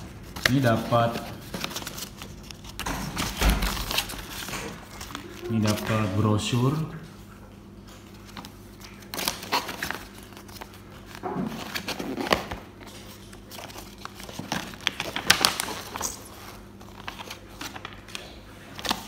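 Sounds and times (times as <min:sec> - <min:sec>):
paper brochure rustling: 0:00.0 - 0:19.0.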